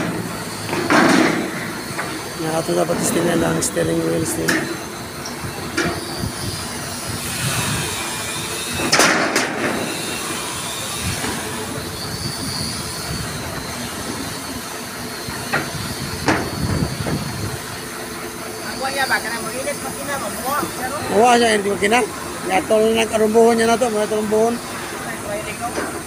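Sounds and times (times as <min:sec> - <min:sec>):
crane diesel engine running: 0:00.0 - 0:26.0
loud hiss: 0:00.0 - 0:26.0.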